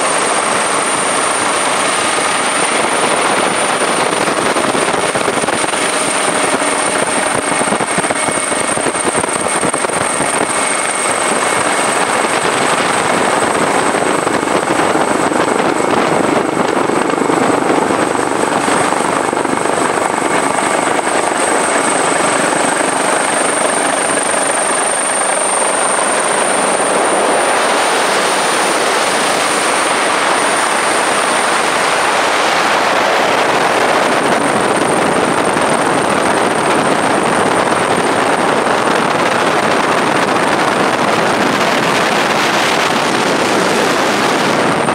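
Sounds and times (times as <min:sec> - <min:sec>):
helicopter noise from on board: 0:00.0 - 0:44.9
high whine: 0:00.0 - 0:44.9.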